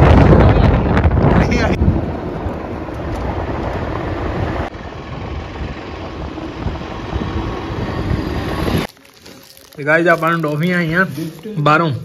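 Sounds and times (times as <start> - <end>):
vehicle wind and road noise: 0.0 - 12.0.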